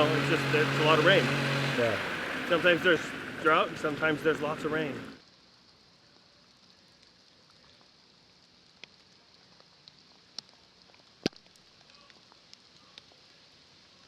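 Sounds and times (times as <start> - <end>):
light rain hiss: 0.0 - 14.0
raindrops tapping on surfaces: 0.0 - 14.0.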